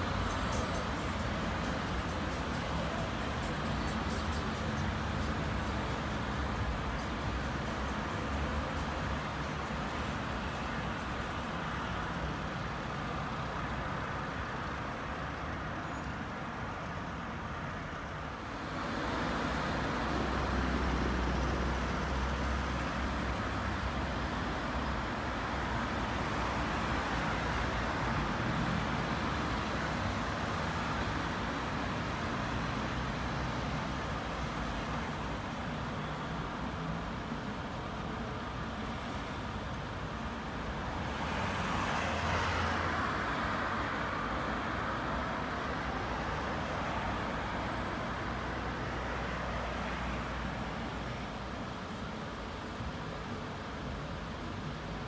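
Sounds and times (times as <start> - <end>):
passing cars: 0.0 - 55.0.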